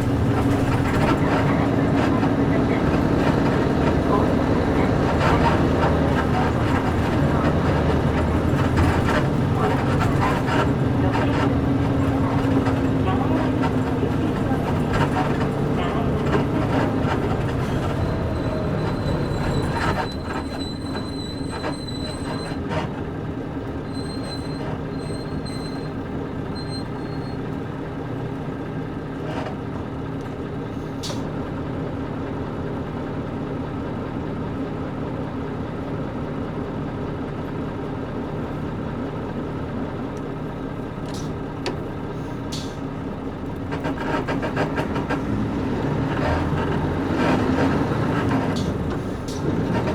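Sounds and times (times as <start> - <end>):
bus engine drone: 0.0 - 49.9.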